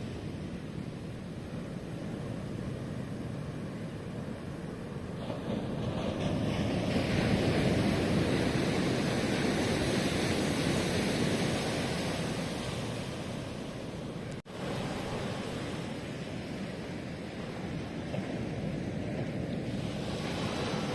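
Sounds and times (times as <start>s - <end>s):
ocean waves washing ashore: 0.0s - 20.9s.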